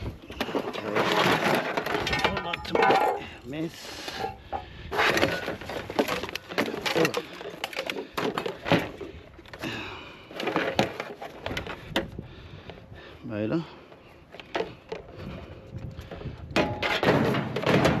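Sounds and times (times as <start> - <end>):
cans and metal parts clattering: 0.0 - 12.0, 14.3 - 18.0.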